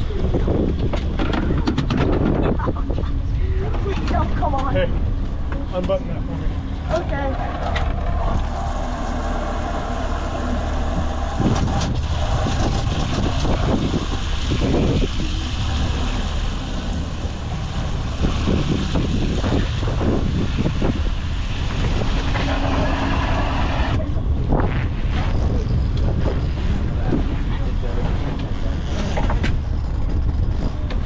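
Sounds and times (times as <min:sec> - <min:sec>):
outboard motor droning: 0:00.0 - 0:31.0
wind on microphone: 0:00.0 - 0:31.0.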